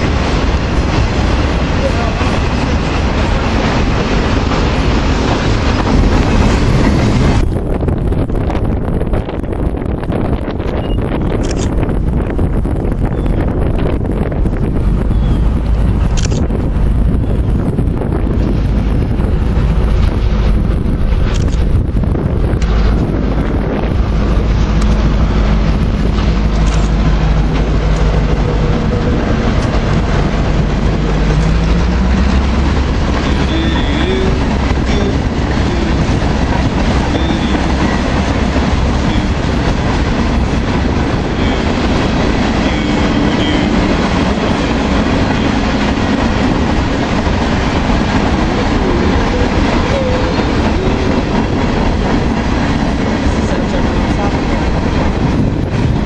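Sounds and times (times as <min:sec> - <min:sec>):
clickety-clack over rail joints: 0:00.0 - 0:56.0
diesel locomotive engine hum: 0:00.0 - 0:56.0
train wheels rumbling on rails: 0:00.0 - 0:56.0.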